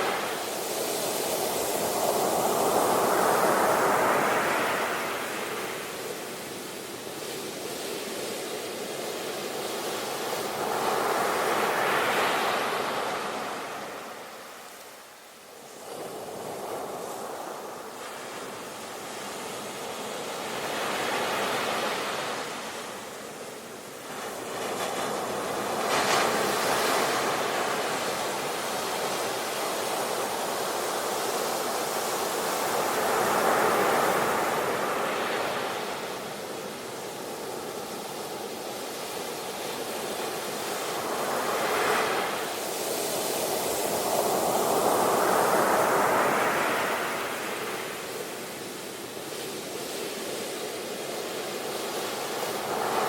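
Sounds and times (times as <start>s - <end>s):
sea waves breaking on shore: 0.0s - 53.0s.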